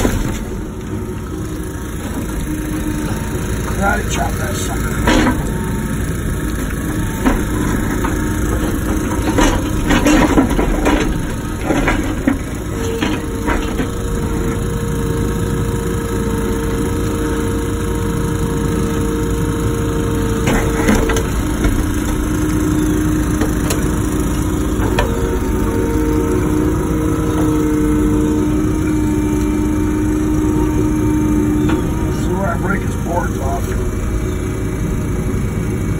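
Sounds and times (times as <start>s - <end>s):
excavator diesel engine running: 0.0s - 35.9s
steady mechanical whine: 0.0s - 35.9s.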